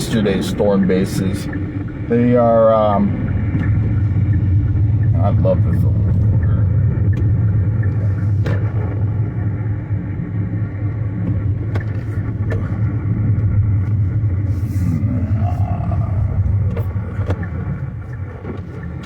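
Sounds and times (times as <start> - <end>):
car interior road drone: 0.0 - 19.0.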